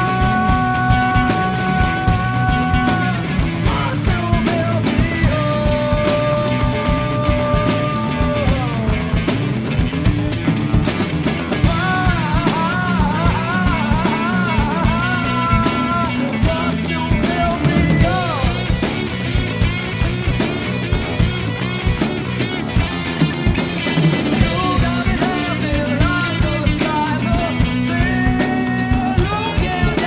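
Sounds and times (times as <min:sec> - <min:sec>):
bending lead guitar line: 0:00.0 - 0:30.0
rock music with drums and bass: 0:00.0 - 0:30.0.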